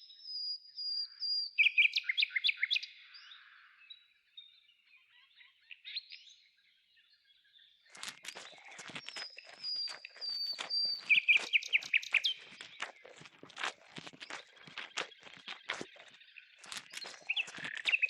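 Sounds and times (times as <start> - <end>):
small birds chirping: 0.8 - 18.0.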